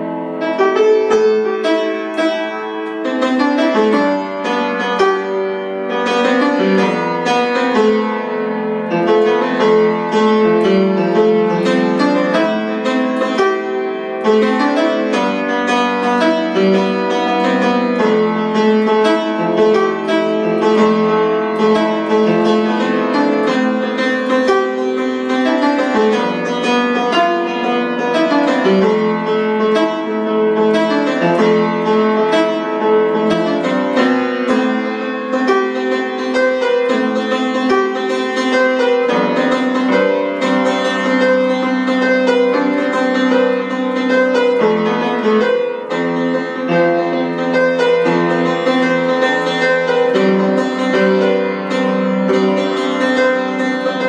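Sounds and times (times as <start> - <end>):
solo piano improvisation: 0.0 - 54.0.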